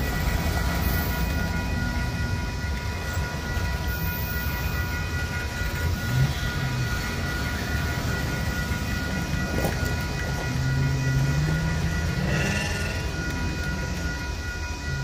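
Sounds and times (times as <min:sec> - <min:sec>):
high-pitched ringing tones: 0:00.0 - 0:15.0
train rumbling over rails: 0:00.0 - 0:15.0.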